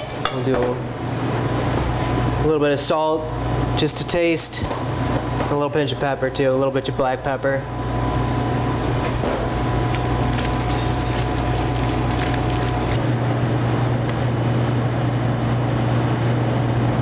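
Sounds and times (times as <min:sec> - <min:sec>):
machinery hum: 0:00.8 - 0:17.0.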